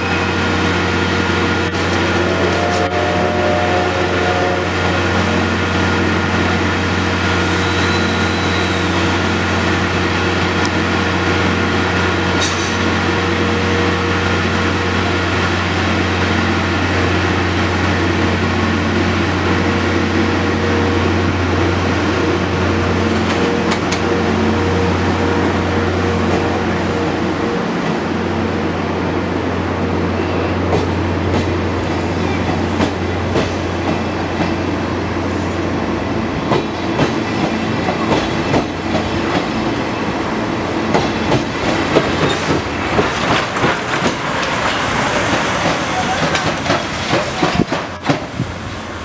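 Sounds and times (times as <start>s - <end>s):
train moving with mechanical drone: 0.0s - 49.0s.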